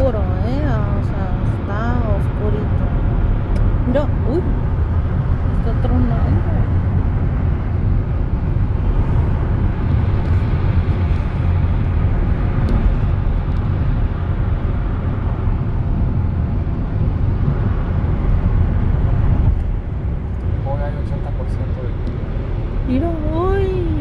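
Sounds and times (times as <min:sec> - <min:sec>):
heavy low rumble: 0:00.0 - 0:24.0.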